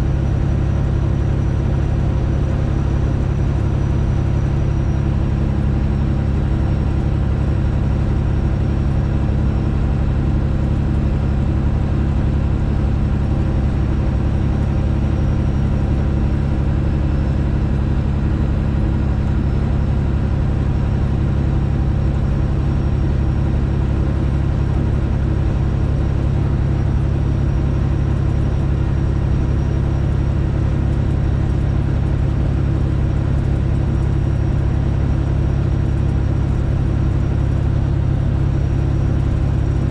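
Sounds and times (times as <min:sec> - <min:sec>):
truck diesel engine drone: 0:00.0 - 0:39.9.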